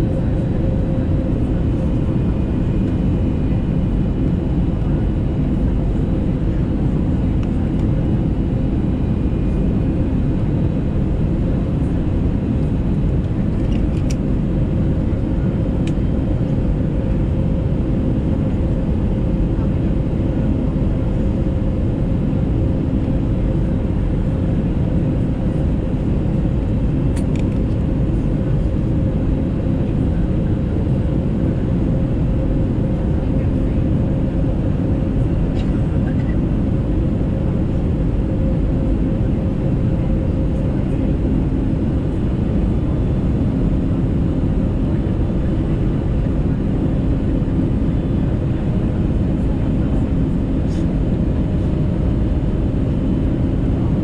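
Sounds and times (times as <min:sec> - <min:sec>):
aircraft cabin engine and airflow rush: 0:00.0 - 0:54.0
steady low hum: 0:00.0 - 0:54.0.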